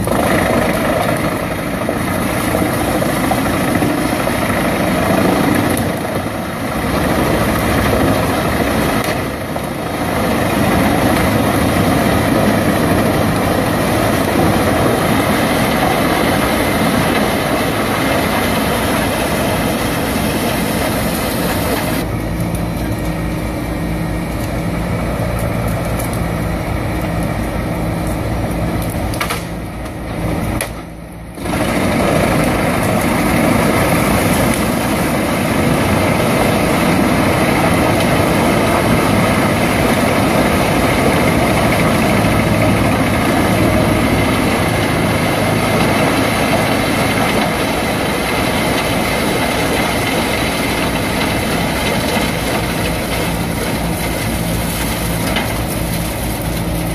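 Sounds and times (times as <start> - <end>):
wood chipper engine running: 0.0 - 56.9.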